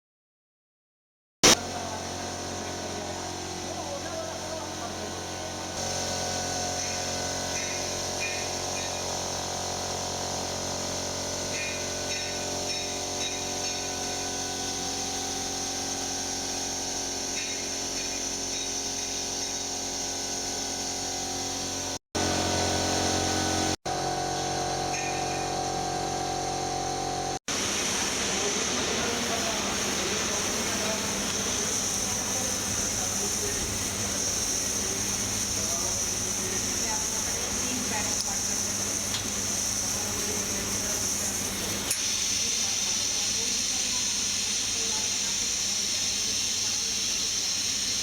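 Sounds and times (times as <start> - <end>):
soldering machine humming: 1.4 - 45.0.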